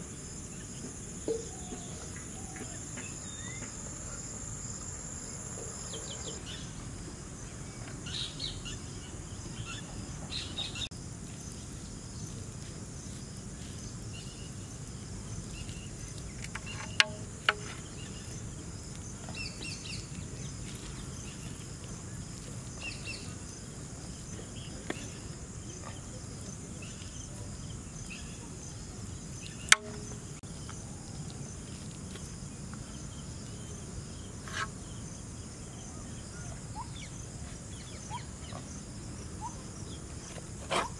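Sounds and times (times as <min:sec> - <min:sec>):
insect trill: 0:00.0 - 0:40.9.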